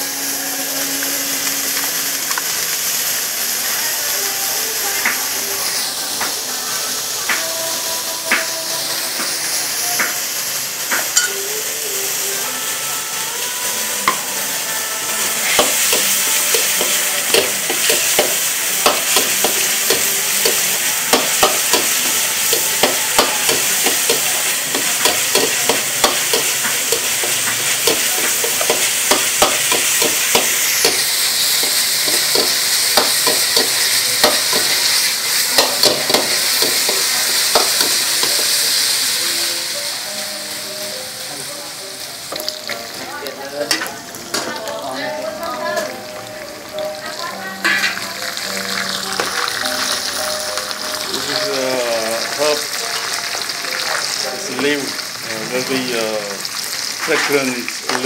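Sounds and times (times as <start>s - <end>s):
meat sizzling in hot oil: 0.0s - 58.0s.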